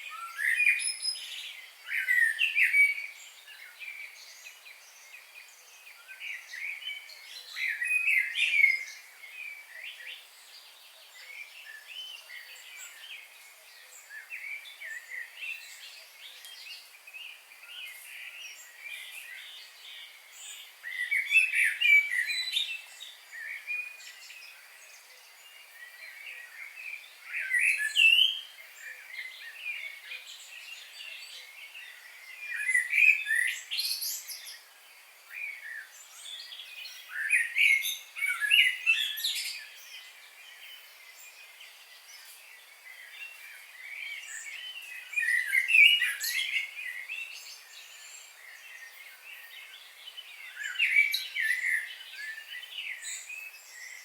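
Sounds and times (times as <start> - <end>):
soft bird chirps: 0.0 - 54.0
songbirds warbling: 0.0 - 54.0.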